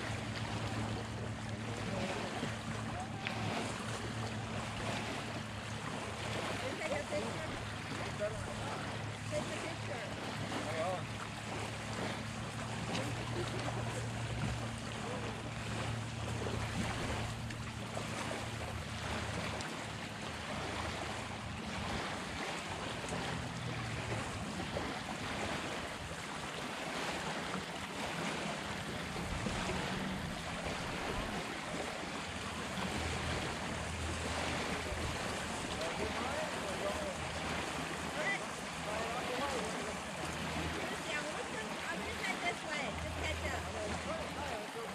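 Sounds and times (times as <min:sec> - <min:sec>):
small waves washing on shore: 0:00.0 - 0:44.9.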